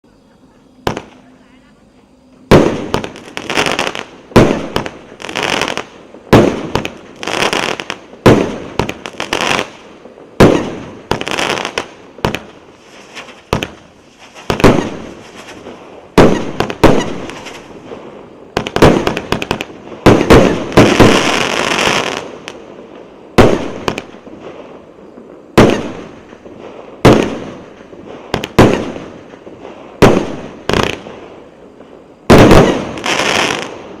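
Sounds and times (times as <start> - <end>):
fireworks cake bangs: 2.5 - 9.8, 10.4 - 22.6, 23.3 - 24.6, 25.5 - 31.3, 32.3 - 34.0.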